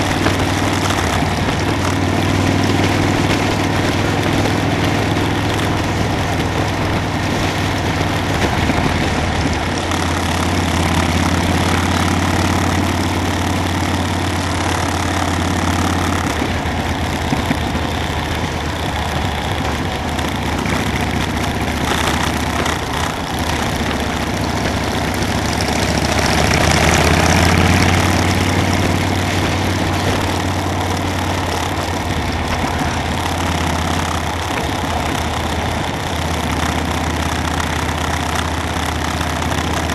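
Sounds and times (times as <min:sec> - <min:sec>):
motorcycle engine running: 0:00.0 - 0:39.9
rushing wind and road noise: 0:00.0 - 0:39.9.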